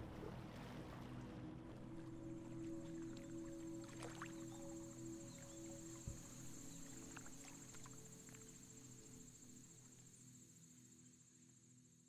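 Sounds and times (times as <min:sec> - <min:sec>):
soft low music tones: 0:00.0 - 0:12.0.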